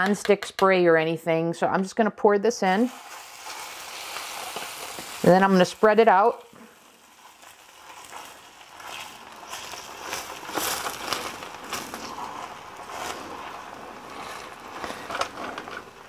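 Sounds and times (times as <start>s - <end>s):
batter sizzling on waffle iron: 2.6s - 16.0s.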